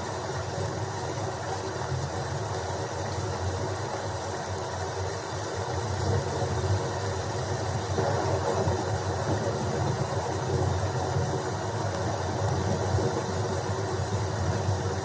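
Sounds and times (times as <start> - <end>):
dense rush of rain: 0.0 - 15.0.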